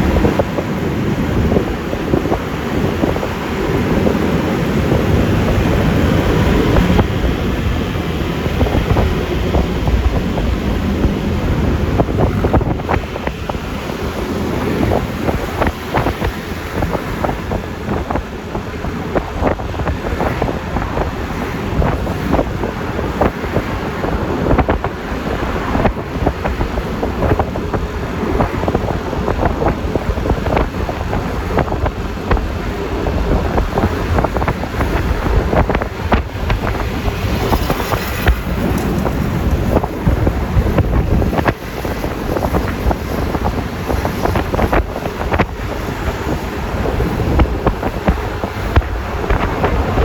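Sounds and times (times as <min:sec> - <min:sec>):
scooter engine and road noise: 0:00.0 - 0:50.0
wind buffeting microphone: 0:00.0 - 0:50.0.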